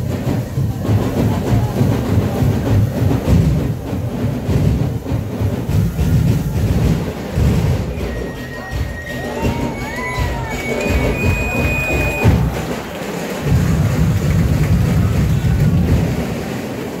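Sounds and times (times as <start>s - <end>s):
drum ensemble playing: 0.0s - 17.0s.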